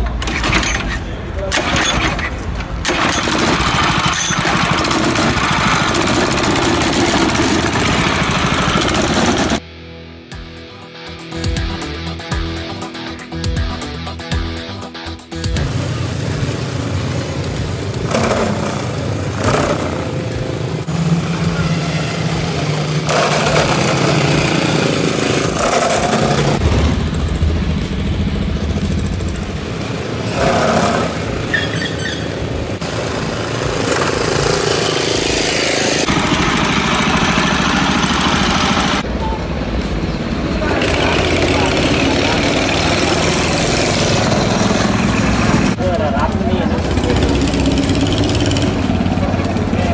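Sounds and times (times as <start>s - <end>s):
go-kart engines revving: 0.0s - 9.6s, 15.4s - 49.9s.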